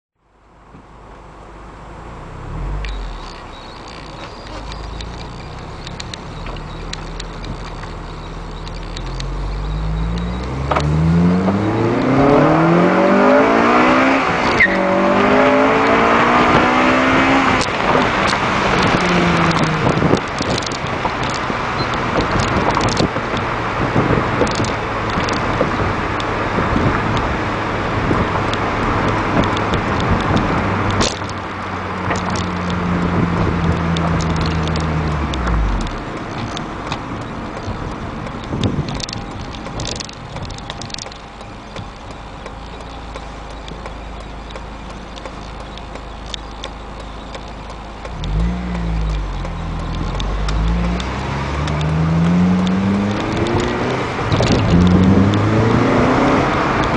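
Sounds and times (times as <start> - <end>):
road noise: 0.2 - 56.9
car engine revving: 1.6 - 56.9.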